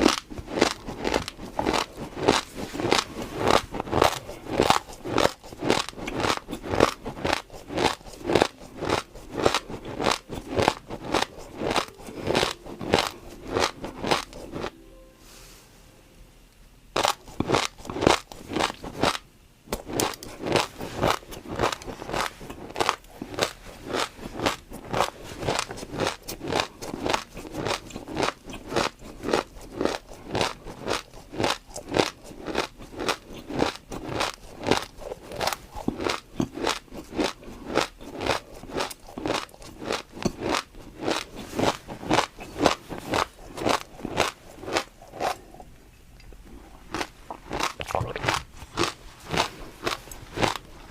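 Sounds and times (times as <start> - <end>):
chewing crunchy food: 0.0 - 14.8, 17.0 - 50.9.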